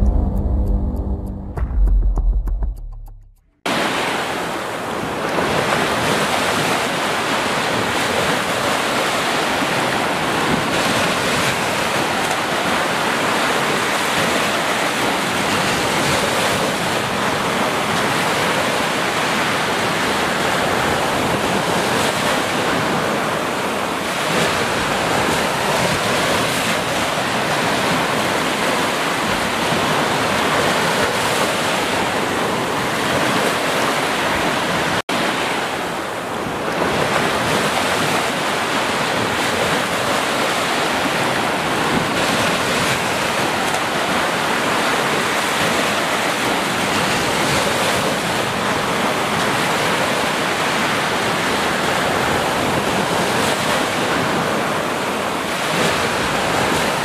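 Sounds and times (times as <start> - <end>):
small waves breaking on beach: 3.7 - 57.0.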